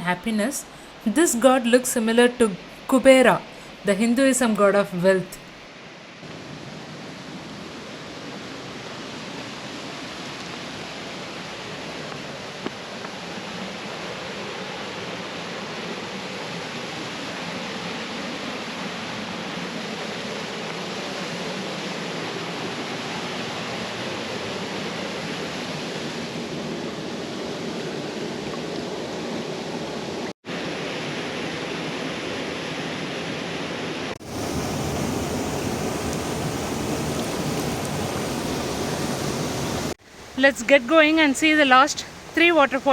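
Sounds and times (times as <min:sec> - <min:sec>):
waterfall rushing: 0:05.7 - 0:42.9.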